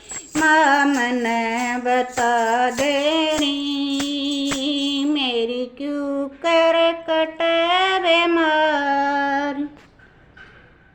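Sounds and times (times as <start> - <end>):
person singing devotional song: 0.0 - 9.8.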